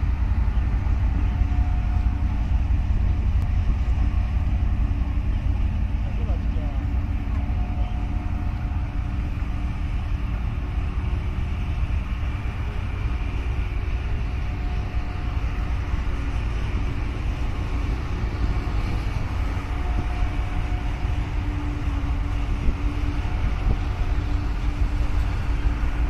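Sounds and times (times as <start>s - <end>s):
ship engine droning: 0.0s - 26.0s.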